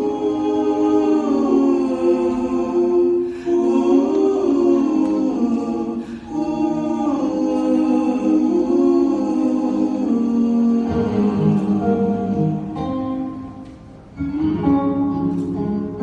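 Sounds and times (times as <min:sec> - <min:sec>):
wordless choir-like voices: 0:00.0 - 0:13.5.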